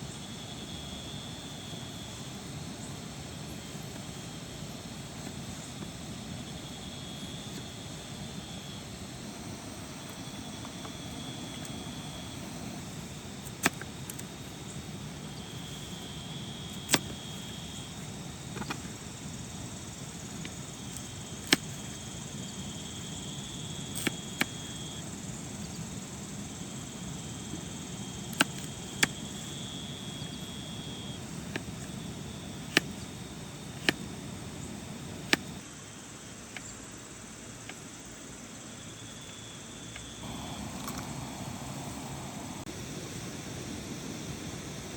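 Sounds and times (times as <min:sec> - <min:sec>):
high insect trill: 0:00.0 - 0:44.9.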